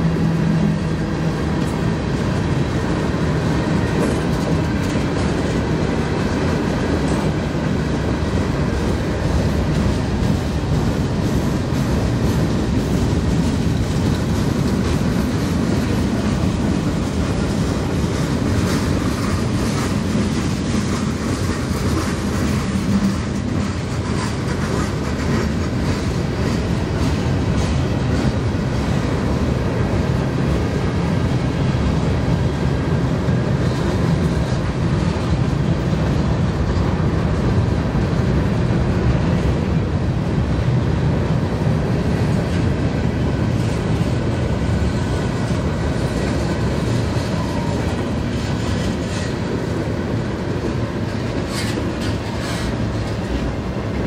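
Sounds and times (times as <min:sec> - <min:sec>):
freight train cars rolling past: 0:00.0 - 0:54.0
steel wheels on rails: 0:00.0 - 0:54.0.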